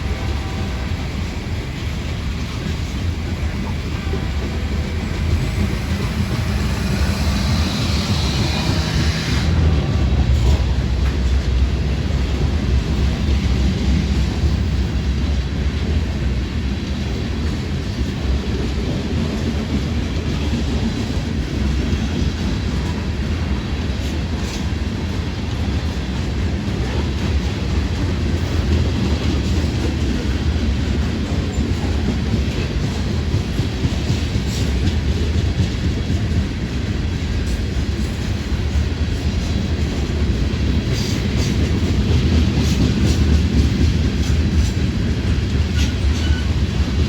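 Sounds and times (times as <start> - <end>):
train cars clattering: 0.0 - 47.0
train wheels rumbling on rails: 0.0 - 47.0.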